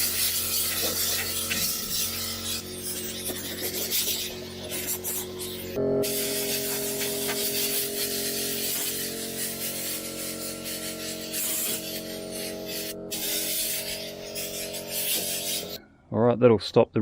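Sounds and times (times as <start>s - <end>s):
air sprayer hissing: 0.0s - 15.8s.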